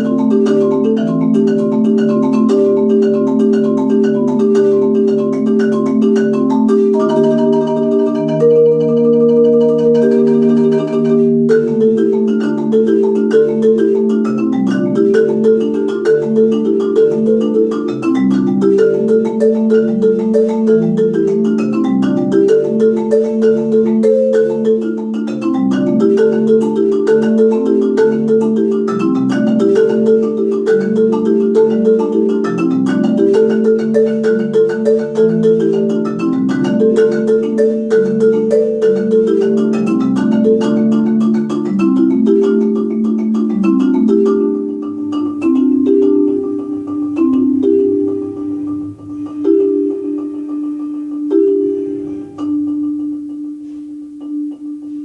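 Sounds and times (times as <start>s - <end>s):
solo marimba: 0.0s - 55.0s.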